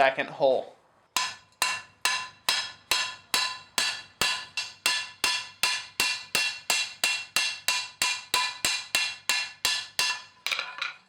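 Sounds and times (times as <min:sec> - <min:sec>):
hammer blows on steel: 0:01.2 - 0:10.3.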